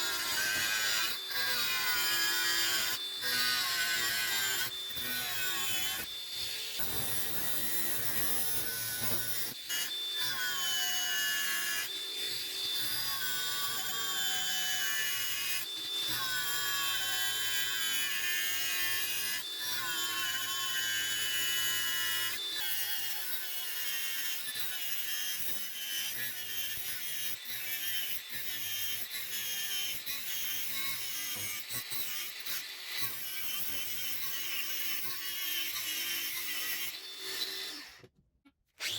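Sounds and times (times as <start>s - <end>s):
power tool grinding steel: 0.0s - 38.2s.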